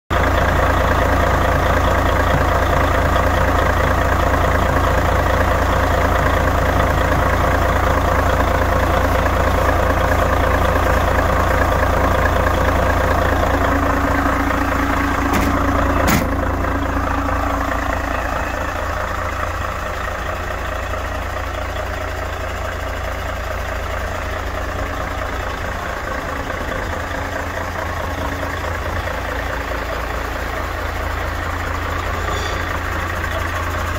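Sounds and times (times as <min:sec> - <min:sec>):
diesel engine idling: 0:00.1 - 0:33.9.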